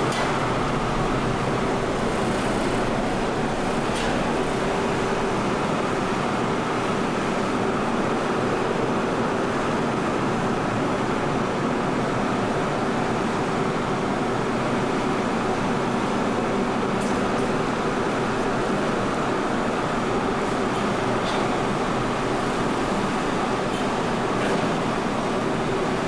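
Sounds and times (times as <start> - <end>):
ship machinery drone: 0.0 - 26.0.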